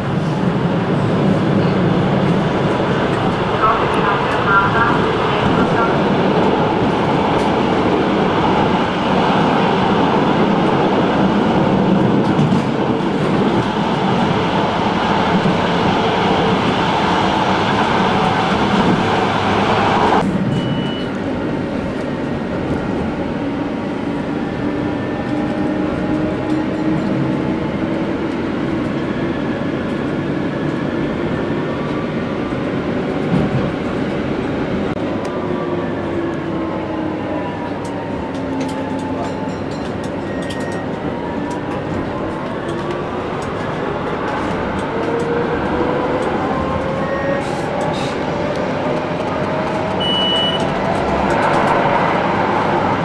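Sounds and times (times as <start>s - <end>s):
tram running noise: 0.0s - 53.0s.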